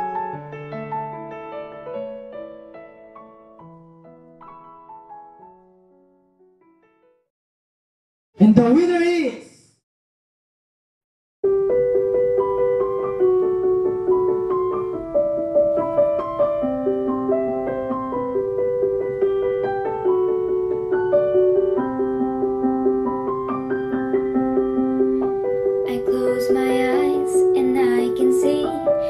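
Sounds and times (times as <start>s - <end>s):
solo piano melody: 0.0s - 7.3s, 11.4s - 29.0s.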